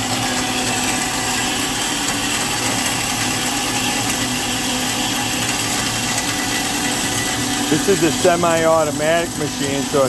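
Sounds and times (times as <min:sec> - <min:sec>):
bandsaw cutting metal: 0:00.0 - 0:10.0.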